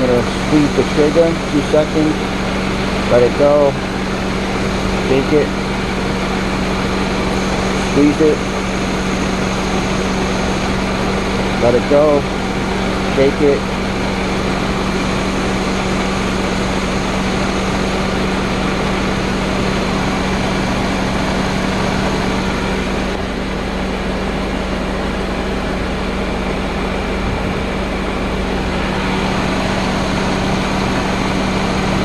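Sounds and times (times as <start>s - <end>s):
car engine idling: 0.0s - 32.0s
fans running: 0.0s - 32.0s.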